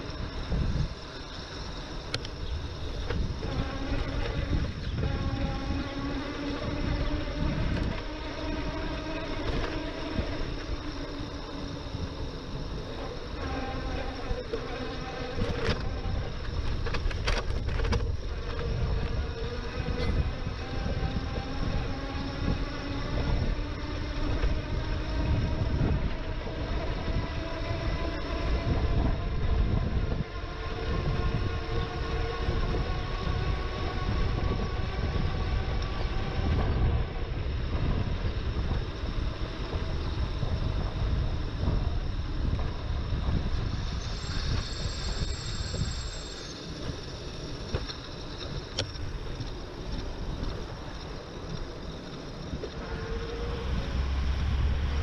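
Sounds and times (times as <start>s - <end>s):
faint motor whine: 0.0s - 55.0s
wind rushing over microphone: 0.0s - 55.0s.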